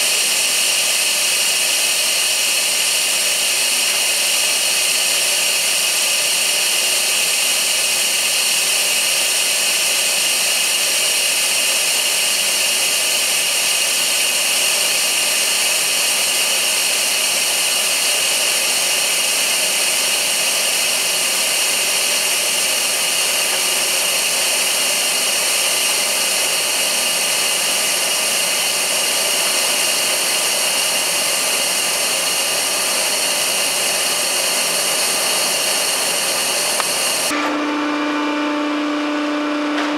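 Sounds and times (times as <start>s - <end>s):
machinery hiss: 0.0s - 37.5s.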